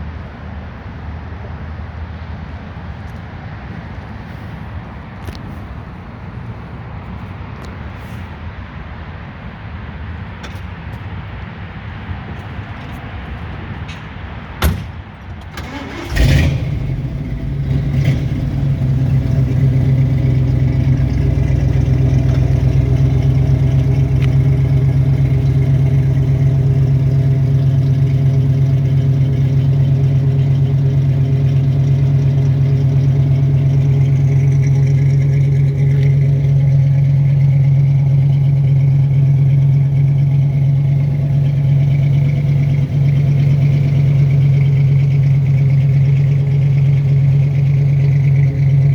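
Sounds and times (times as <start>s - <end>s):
car engine starting and idling: 0.0s - 48.9s.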